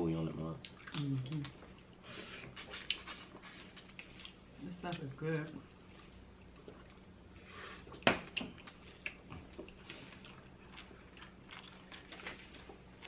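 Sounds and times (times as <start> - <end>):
chewing and mouth sounds: 0.5 - 13.0.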